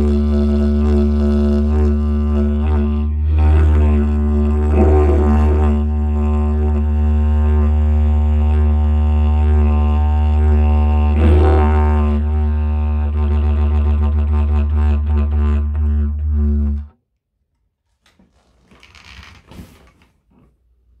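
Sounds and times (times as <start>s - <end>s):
didgeridoo drone: 0.0s - 16.9s.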